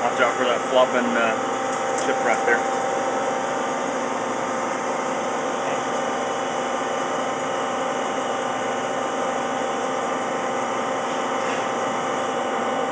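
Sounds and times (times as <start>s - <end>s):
lathe machine hum: 0.0s - 12.9s.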